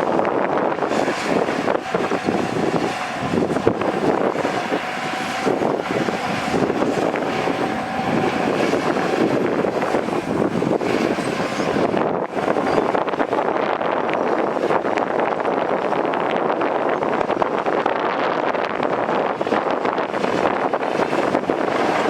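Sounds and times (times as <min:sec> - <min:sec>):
heavy diesel machinery running: 0:00.0 - 0:22.0.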